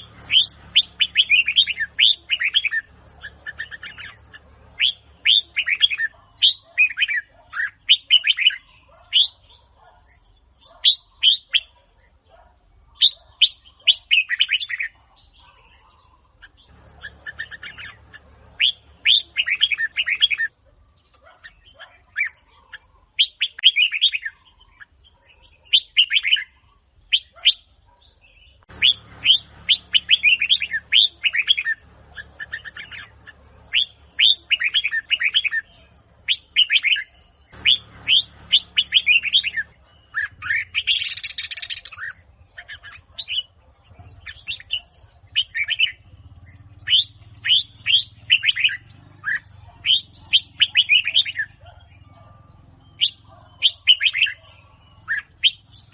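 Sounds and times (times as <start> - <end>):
bird singing whistled notes: 0.0 - 55.9.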